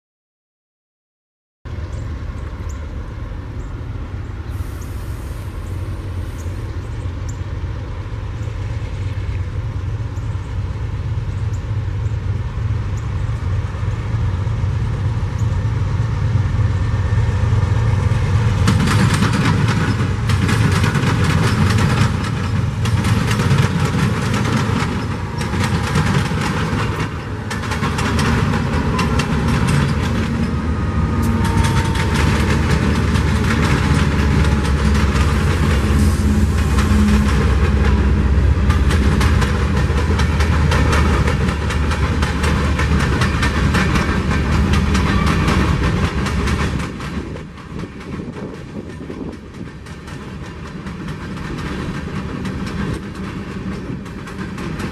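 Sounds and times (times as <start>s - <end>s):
diesel locomotive engine rumble: 1.7s - 54.9s
train wheels clattering on rails: 8.3s - 54.9s.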